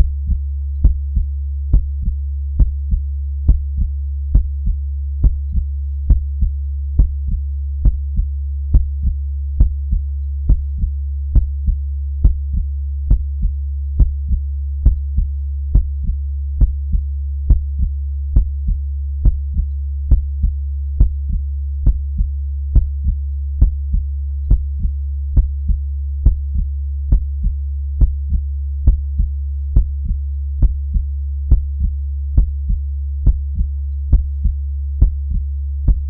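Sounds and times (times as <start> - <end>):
constant low hum: 0.0 - 36.0
heartbeat thumps: 0.0 - 36.0.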